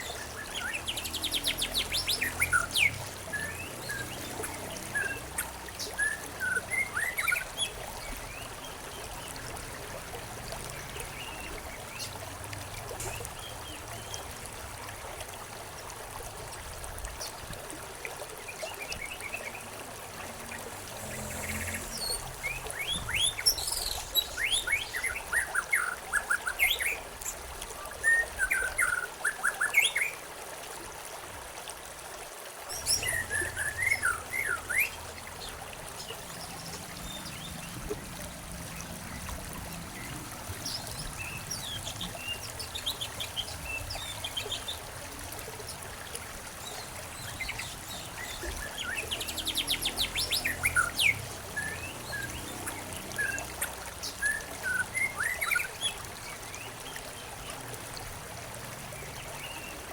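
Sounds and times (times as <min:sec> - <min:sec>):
songbirds chirping and trilling: 0:00.0 - 0:14.4, 0:18.5 - 0:30.1, 0:32.7 - 0:57.5
flowing water trickle: 0:00.0 - 0:59.9.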